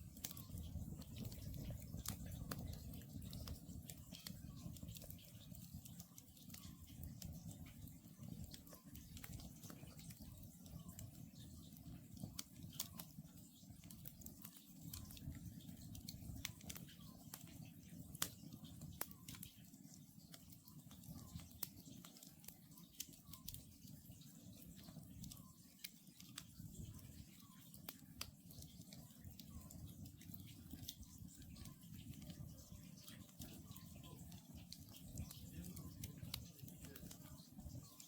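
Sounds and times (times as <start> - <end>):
campfire crackling and popping: 0.0 - 38.0
low rumble of burning: 0.0 - 38.0.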